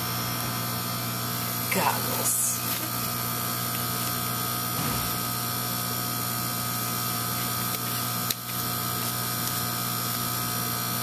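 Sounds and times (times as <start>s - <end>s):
electrical machine buzzing: 0.0s - 11.0s.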